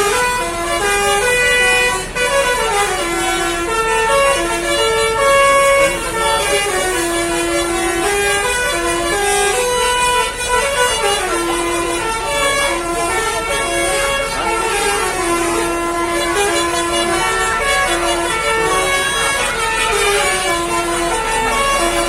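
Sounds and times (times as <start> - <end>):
multi-tone bus air horn tune: 0.0 - 22.0.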